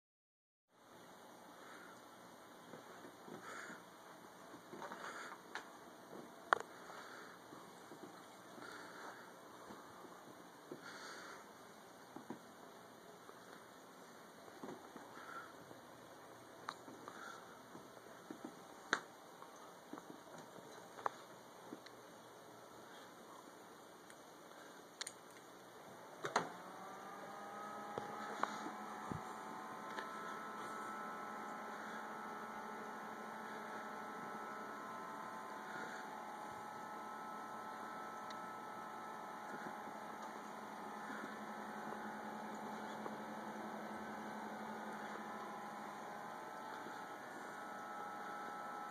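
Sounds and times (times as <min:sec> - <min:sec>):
computer fans humming and whining: 0:00.8 - 0:48.9.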